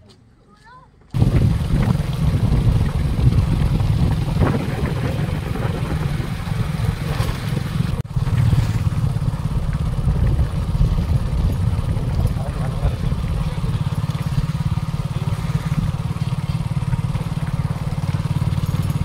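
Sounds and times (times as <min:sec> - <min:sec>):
wind buffeting microphone: 0:01.1 - 0:19.0
vehicle engine: 0:01.2 - 0:19.0.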